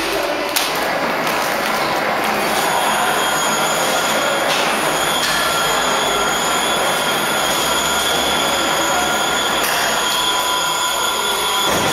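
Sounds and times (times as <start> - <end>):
packaging machines running: 0.0 - 11.9
high whining tones: 1.3 - 11.9.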